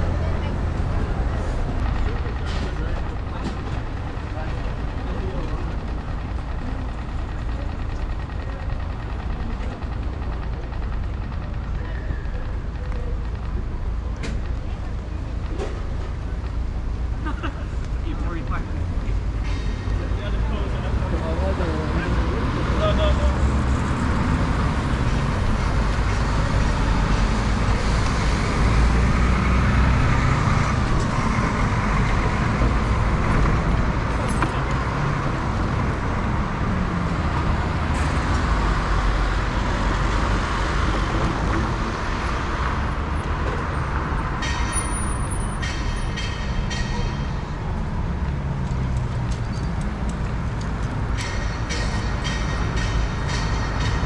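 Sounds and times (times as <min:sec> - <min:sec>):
street traffic road noise: 0:00.0 - 0:54.0.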